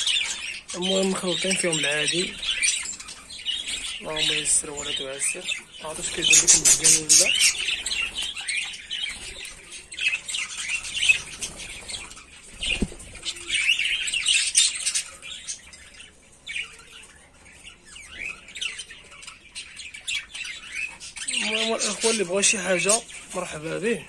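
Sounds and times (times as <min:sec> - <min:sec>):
budgerigars chirping and warbling: 0:00.0 - 0:24.0.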